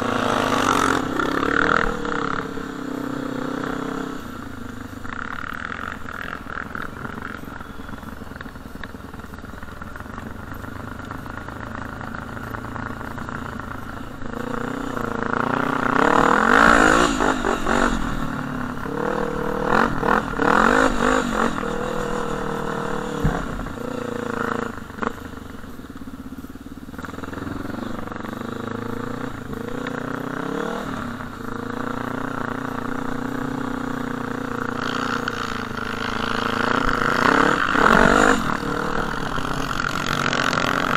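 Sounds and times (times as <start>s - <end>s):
quad bike engine revving: 0.0s - 26.0s, 26.8s - 40.9s.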